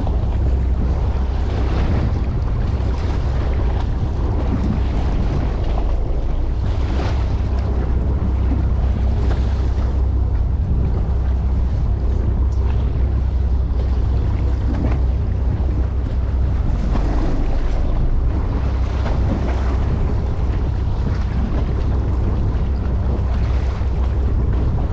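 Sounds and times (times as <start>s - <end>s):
low rumble: 0.0s - 24.9s
wind gusting over microphone: 0.0s - 24.9s.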